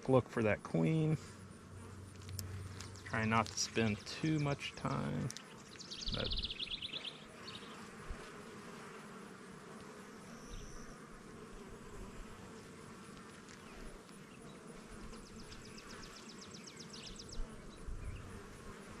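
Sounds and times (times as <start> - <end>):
bees buzzing: 0.4 - 19.0.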